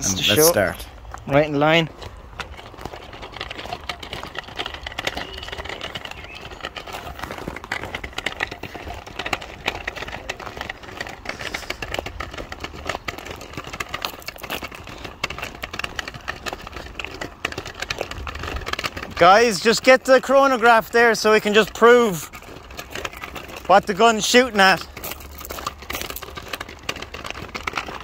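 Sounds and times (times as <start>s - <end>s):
footsteps crunching on gravel: 0.0s - 28.0s
measuring wheel rolling over gravel: 0.0s - 28.0s.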